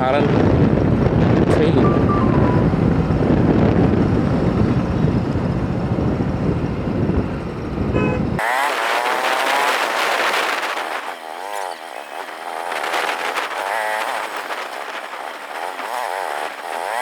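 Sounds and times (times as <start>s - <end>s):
wind and road noise: 0.0s - 17.0s
motorcycle engine revving: 2.6s - 17.0s.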